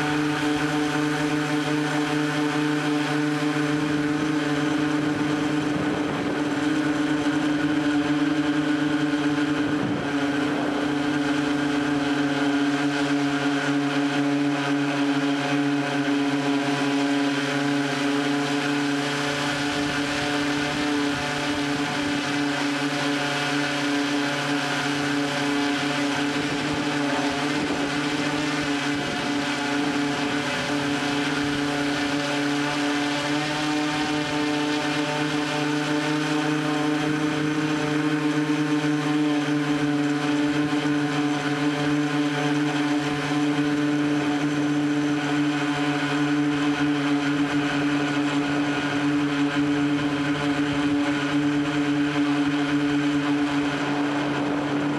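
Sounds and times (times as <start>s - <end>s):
drone motors and propellers: 0.0s - 54.9s.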